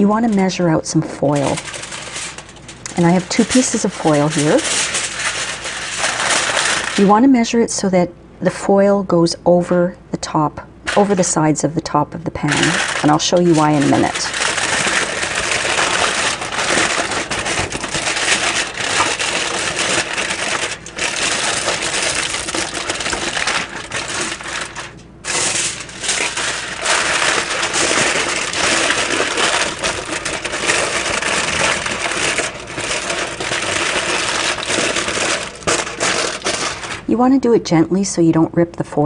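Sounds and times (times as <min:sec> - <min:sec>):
aluminium foil crinkling: 0:00.0 - 0:07.4, 0:10.9 - 0:37.2.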